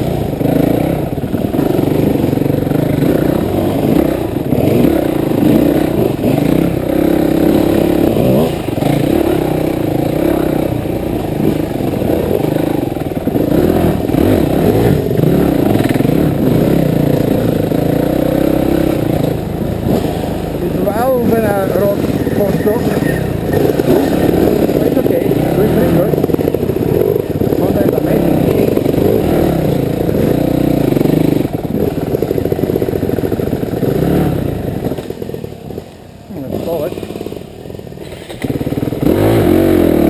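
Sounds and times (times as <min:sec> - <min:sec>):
dirt bike engine: 0:00.0 - 0:40.0.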